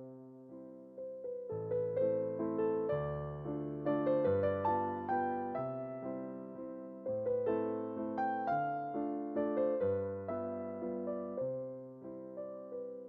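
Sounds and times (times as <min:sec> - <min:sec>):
soft piano piece: 0:00.0 - 0:13.0.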